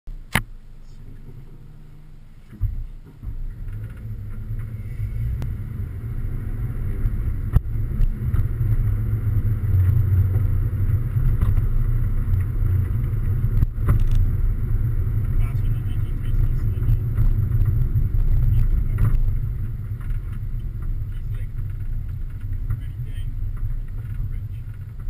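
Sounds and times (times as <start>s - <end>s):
car engine and road noise: 0.1s - 25.0s.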